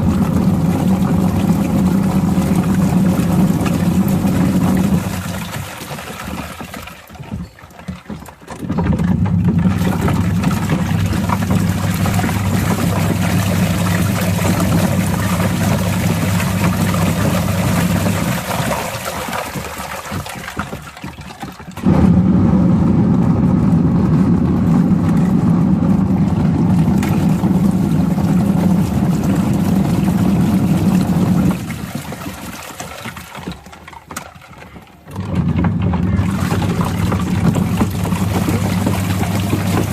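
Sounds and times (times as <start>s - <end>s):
washing machine churning water: 0.0s - 39.9s.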